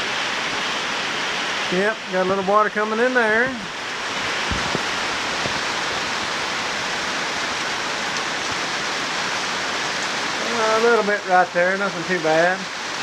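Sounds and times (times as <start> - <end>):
heavy rain on metal roof: 0.0 - 13.0.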